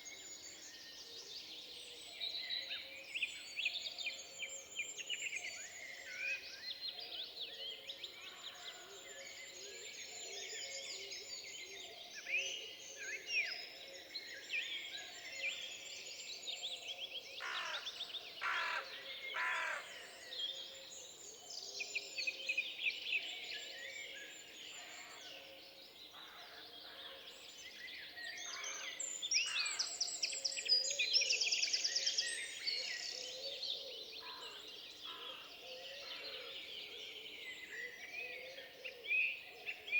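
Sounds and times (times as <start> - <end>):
songbird chorus: 0.0 - 39.9.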